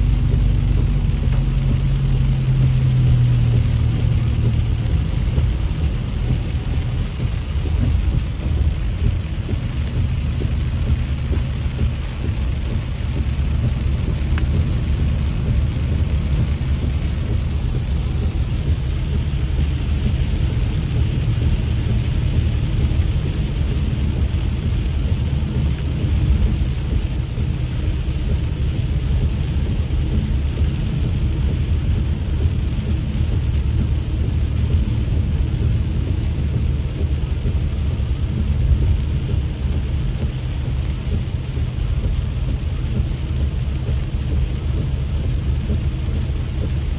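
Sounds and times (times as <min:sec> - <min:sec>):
road and engine rumble: 0:00.0 - 0:46.9.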